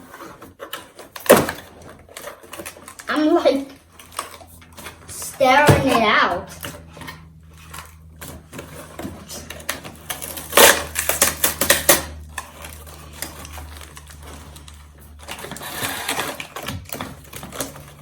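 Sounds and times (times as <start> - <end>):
packaging rattling and crackling: 0.0 - 18.0
steady low hum: 0.0 - 18.0.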